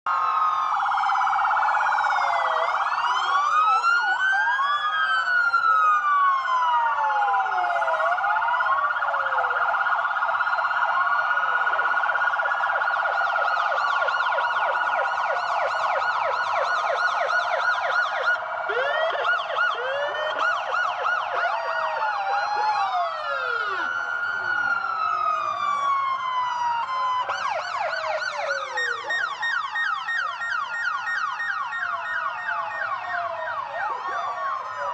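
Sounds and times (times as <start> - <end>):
police siren wailing: 0.1 - 34.9.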